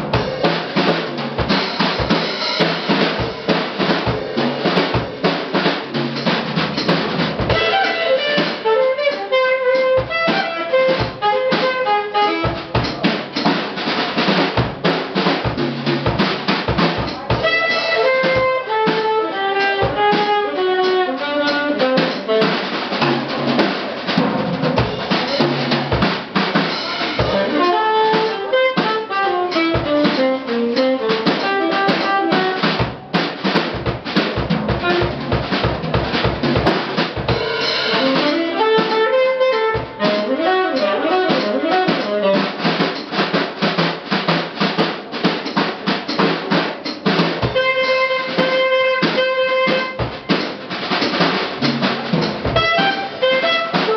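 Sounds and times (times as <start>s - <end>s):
saxophone playing jazz runs: 0.0s - 13.2s, 17.0s - 23.7s, 24.8s - 44.1s, 47.4s - 53.9s
drum kit playing: 0.0s - 53.9s.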